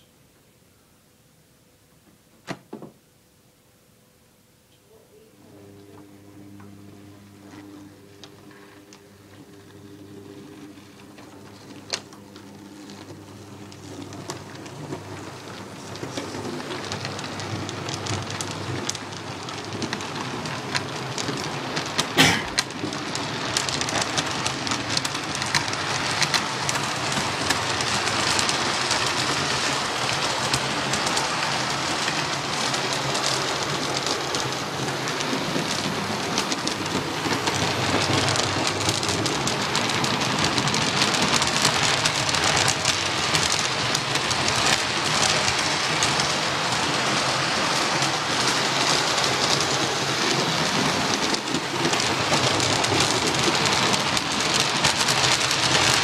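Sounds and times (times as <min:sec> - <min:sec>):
model train wheels rattling on track: 0:08.1 - 0:56.0.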